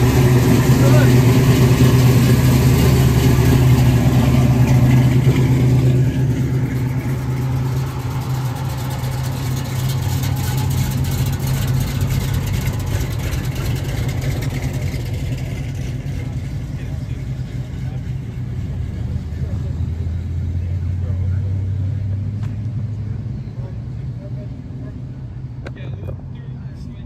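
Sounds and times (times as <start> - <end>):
car engines idling: 0.0 - 27.0.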